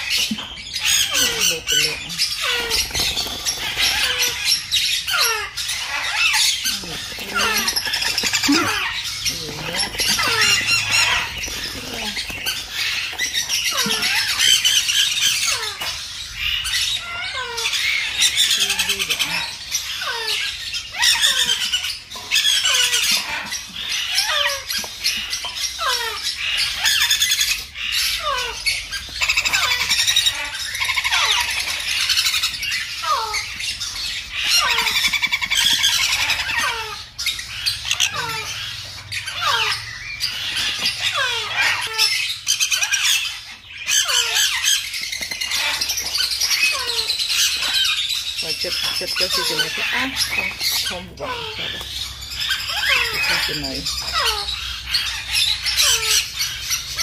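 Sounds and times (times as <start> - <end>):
parrot chicks squawking: 0.0 - 57.0.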